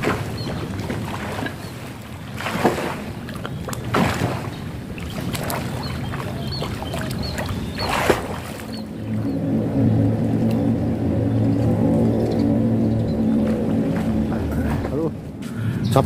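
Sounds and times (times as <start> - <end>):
swimmer splashing water: 0.0 - 16.0
steady rushing background: 3.1 - 16.0.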